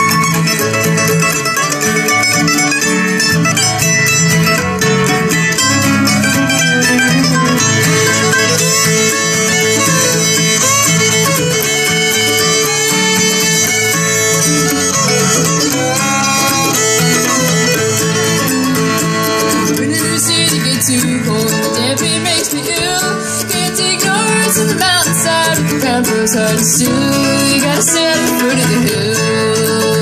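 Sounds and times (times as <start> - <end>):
acoustic guitar: 0.0 - 30.0
bluegrass band playing: 0.0 - 30.0
fiddle melody: 0.0 - 30.0.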